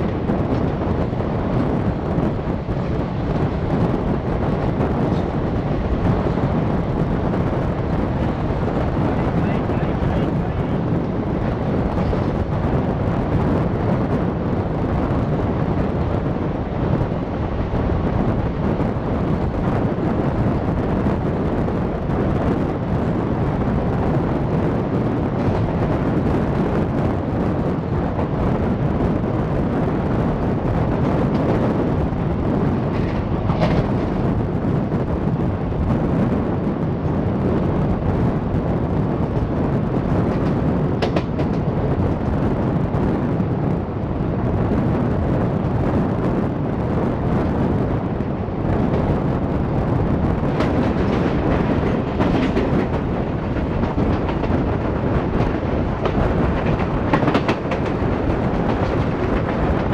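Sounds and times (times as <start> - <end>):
train wheels rumbling on track: 0.0 - 59.9
wind on microphone: 0.0 - 59.9.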